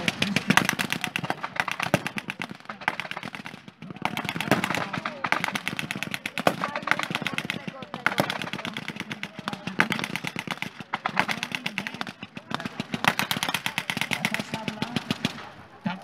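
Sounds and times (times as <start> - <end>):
rapid blank gunfire: 0.0 - 16.0.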